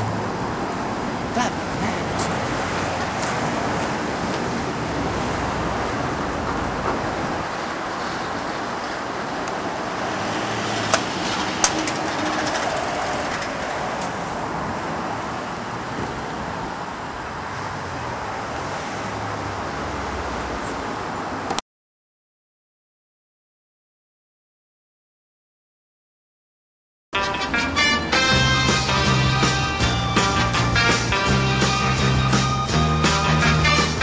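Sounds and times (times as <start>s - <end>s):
outdoor rushing rumble: 0.0s - 21.1s, 27.8s - 34.0s.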